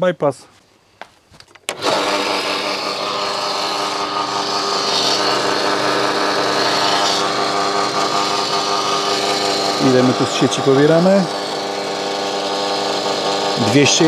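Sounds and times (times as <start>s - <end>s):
electric band saw running: 1.7s - 14.0s.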